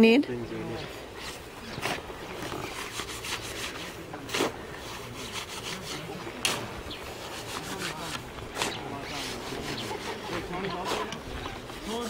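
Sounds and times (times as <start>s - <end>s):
shovel scraping mortar mix: 1.2s - 12.0s.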